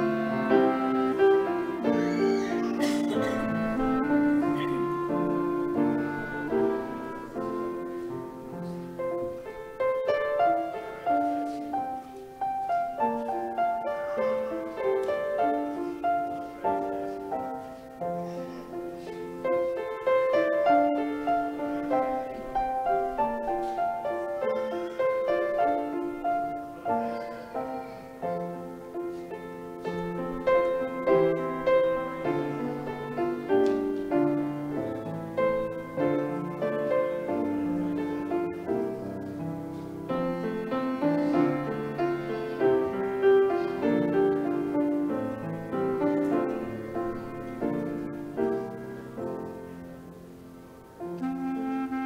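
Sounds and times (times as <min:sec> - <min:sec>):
piano music: 0:00.0 - 0:52.0.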